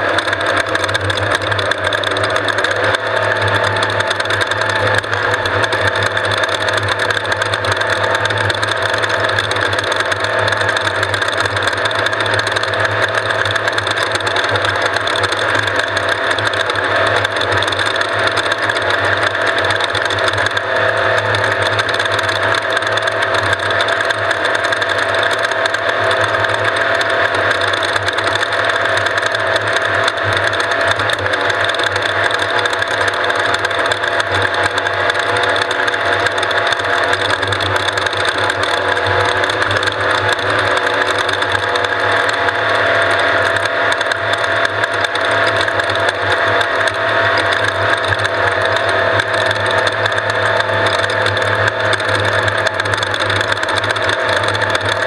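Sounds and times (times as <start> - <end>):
race vehicle engine running: 0.0 - 55.0.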